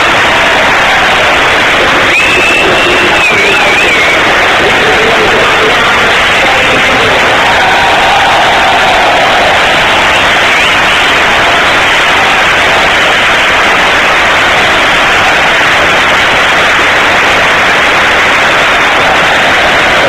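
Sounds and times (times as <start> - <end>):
stadium crowd singing and cheering: 0.0 - 20.0.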